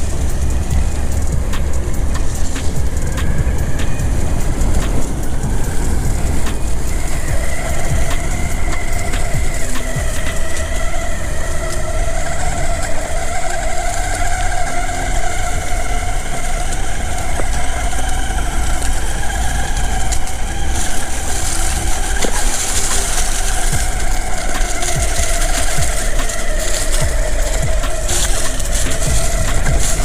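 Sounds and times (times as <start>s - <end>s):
electric motors whining: 0.0s - 30.0s
low rumble and hiss: 0.0s - 30.0s.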